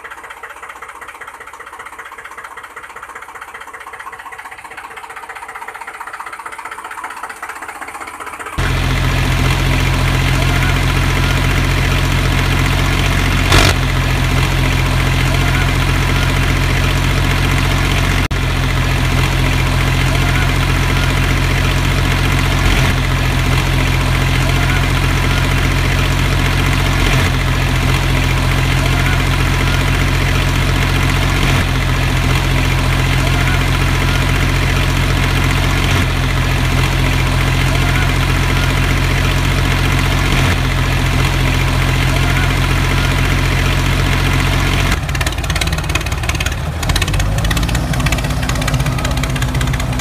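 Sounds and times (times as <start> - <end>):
recorded tractor engine idling: 0.0 - 50.0.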